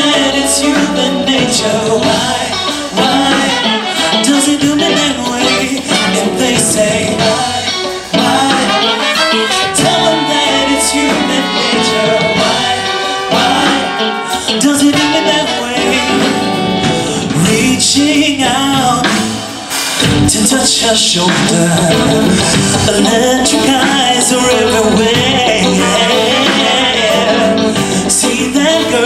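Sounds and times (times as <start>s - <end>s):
lead singer singing: 0.0s - 29.0s
live pop-soul band playing: 0.0s - 29.0s.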